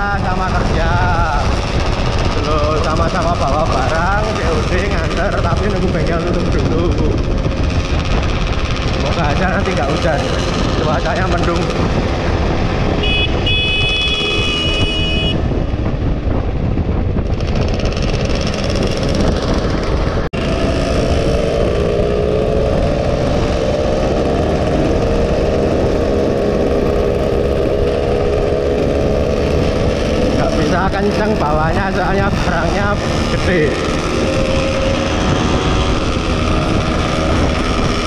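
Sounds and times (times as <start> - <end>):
two-stroke motorcycle engine: 0.0 - 38.0
wind rush on microphone: 0.0 - 38.0.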